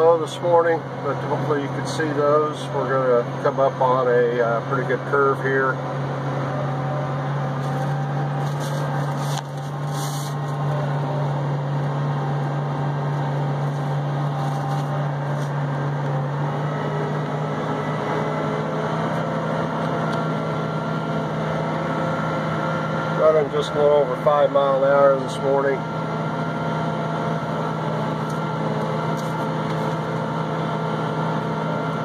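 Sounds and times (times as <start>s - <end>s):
tractor engine droning: 0.0s - 32.0s.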